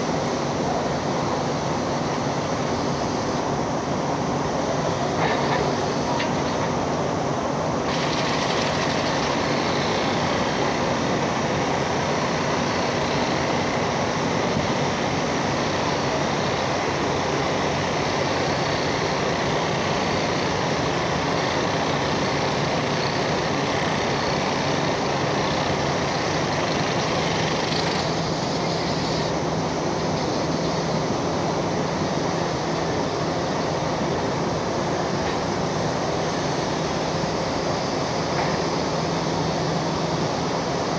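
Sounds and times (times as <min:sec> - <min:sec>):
blast furnace rushing roar: 0:00.0 - 0:40.9.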